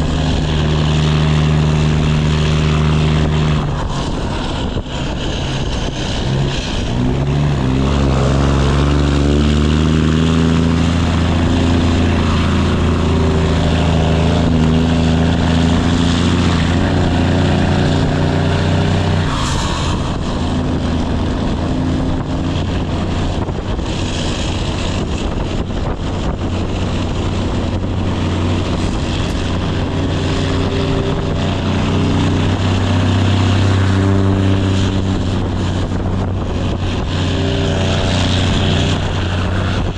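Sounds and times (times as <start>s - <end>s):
diesel truck exhaust drone: 0.0s - 39.9s.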